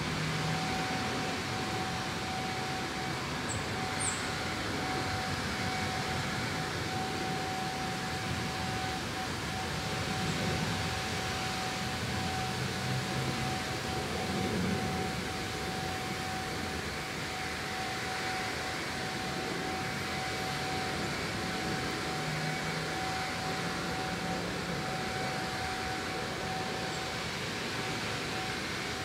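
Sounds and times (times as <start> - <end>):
mid-pitched machine hum: 0.0 - 29.0.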